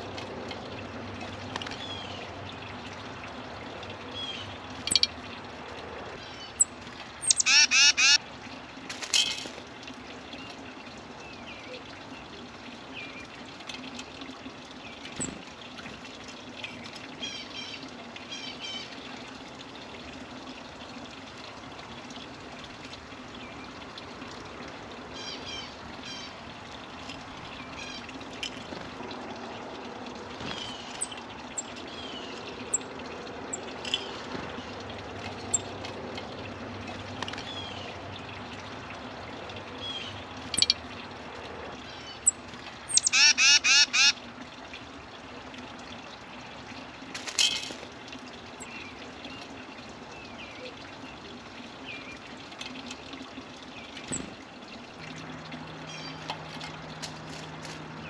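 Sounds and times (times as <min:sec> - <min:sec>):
trickling water: 0:00.0 - 0:58.0.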